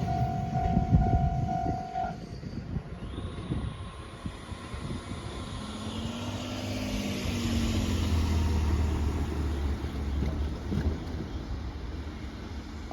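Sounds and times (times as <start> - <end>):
diesel train passing: 0.0 - 12.9.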